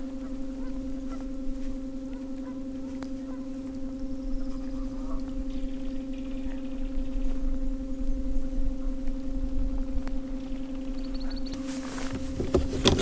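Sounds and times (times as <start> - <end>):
electric boat motor humming: 0.0 - 13.0
low rumble: 0.0 - 13.0.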